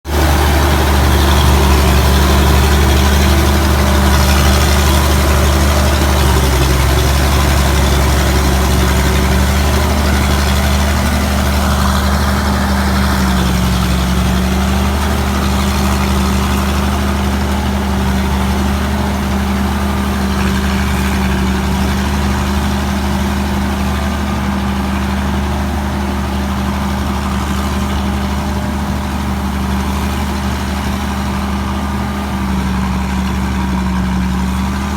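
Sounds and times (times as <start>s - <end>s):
diesel engine drone: 0.0s - 34.9s.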